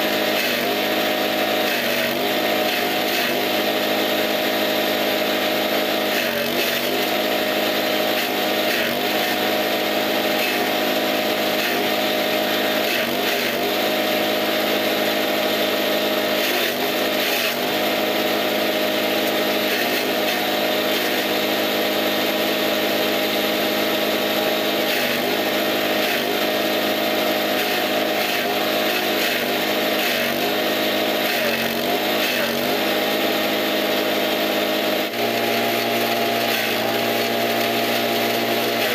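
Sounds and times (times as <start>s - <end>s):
forage chopper engine running: 0.0s - 38.9s.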